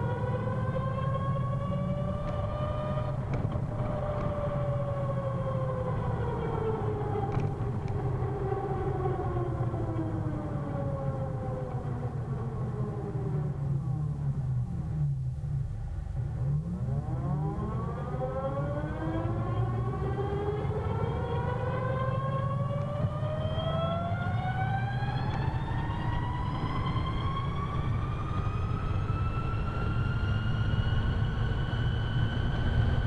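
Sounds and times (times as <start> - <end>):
electric scooter gear whine: 0.0 - 33.0.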